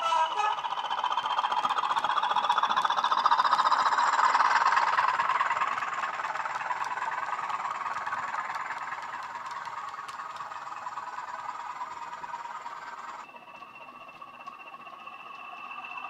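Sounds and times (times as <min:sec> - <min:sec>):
diesel engine sound from small speaker: 0:00.0 - 0:16.0
model train running on track: 0:00.0 - 0:16.0.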